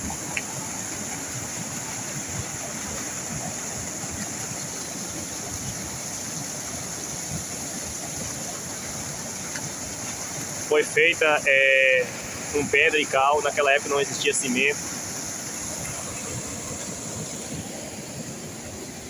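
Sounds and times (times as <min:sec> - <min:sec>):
water rushing over dam spillway: 0:00.0 - 0:19.0.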